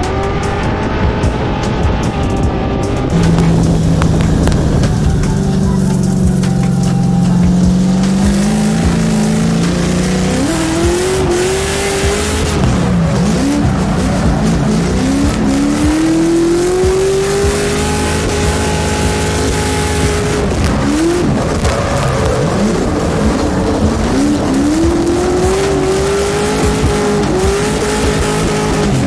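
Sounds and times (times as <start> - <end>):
car engine revving: 0.0 - 29.0
tyres squealing: 3.1 - 29.0.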